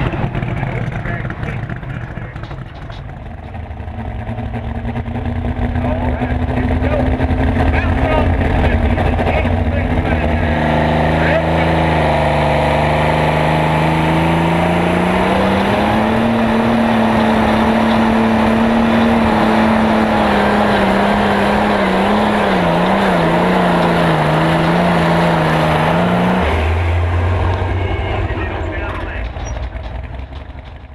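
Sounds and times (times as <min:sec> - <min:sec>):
low engine rumble: 0:00.0 - 0:30.9
tractor engine at full throttle: 0:00.0 - 0:30.9.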